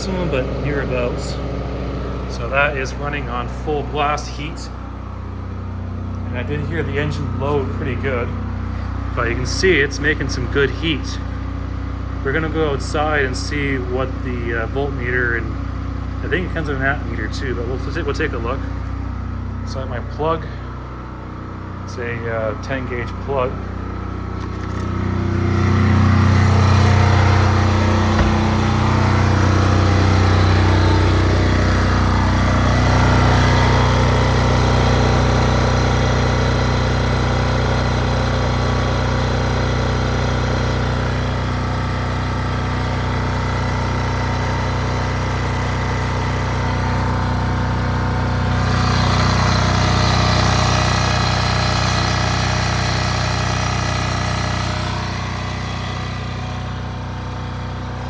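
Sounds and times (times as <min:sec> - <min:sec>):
diesel generator engine throbbing: 0:00.0 - 0:58.0.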